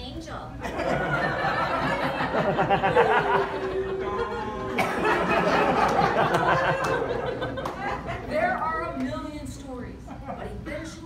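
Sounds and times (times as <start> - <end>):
audience laughing and chattering: 0.6 - 8.9, 9.8 - 11.0.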